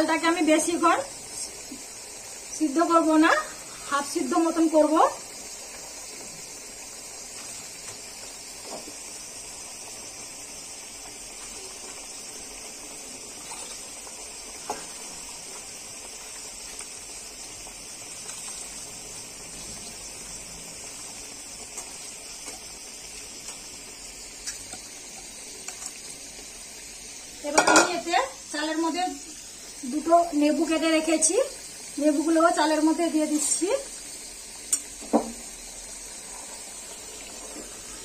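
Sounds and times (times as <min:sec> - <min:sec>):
water boiling hiss: 0:00.0 - 0:38.0.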